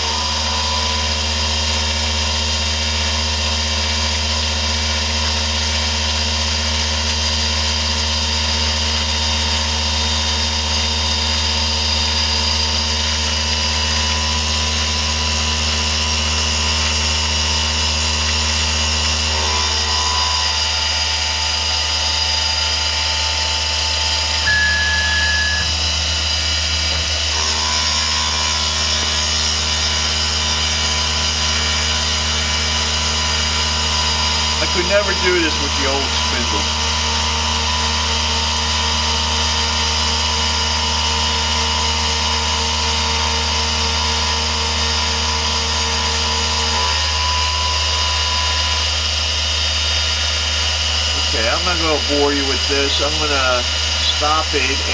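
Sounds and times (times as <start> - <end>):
milling machine whine and hum: 0.0 - 54.9.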